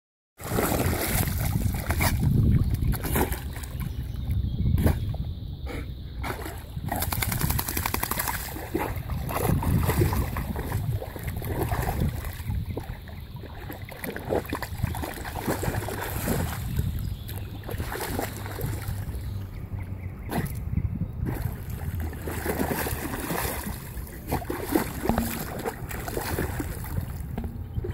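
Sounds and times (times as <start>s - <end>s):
water splashing and sloshing: 0.4s - 5.2s, 6.1s - 27.9s.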